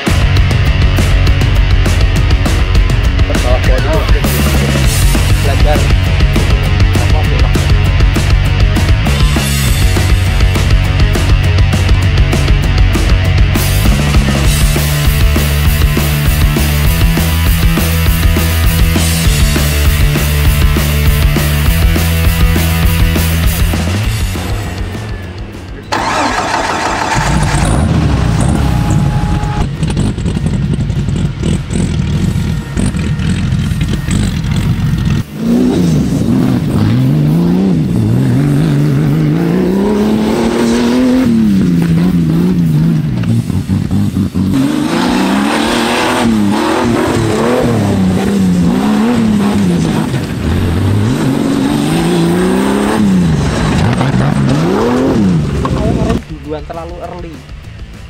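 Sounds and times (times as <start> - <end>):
race buggy engine revving: 0.0 - 58.0.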